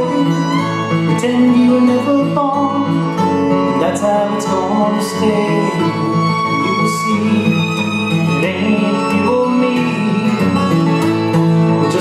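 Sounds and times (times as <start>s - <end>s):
fiddle sliding melody: 0.0s - 12.0s
strummed acoustic guitar: 0.0s - 12.0s.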